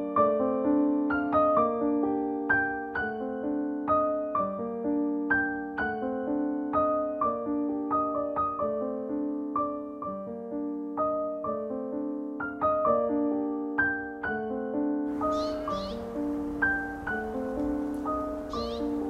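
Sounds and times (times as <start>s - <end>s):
gentle solo piano piece: 0.0s - 19.0s.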